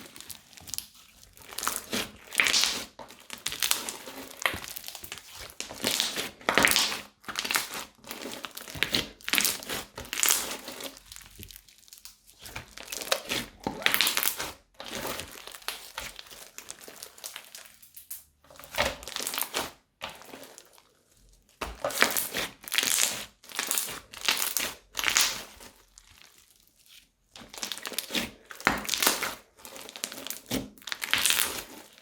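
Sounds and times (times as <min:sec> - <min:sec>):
slime crinkling and crunching in bags: 0:00.0 - 0:32.0.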